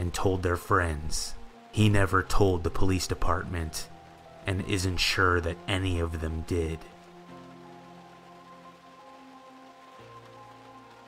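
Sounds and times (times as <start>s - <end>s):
faint rain hiss: 0.0s - 11.0s
soft slow background music: 0.0s - 11.0s.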